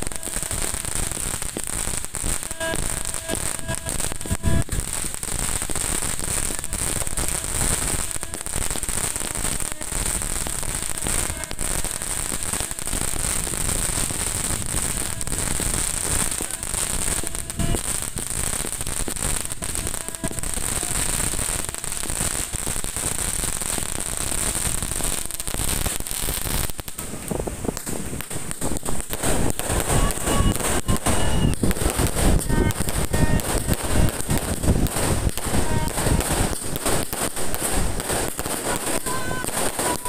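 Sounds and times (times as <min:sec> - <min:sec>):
fireworks crackling and popping: 0:00.0 - 0:40.0
high hiss: 0:00.0 - 0:40.0.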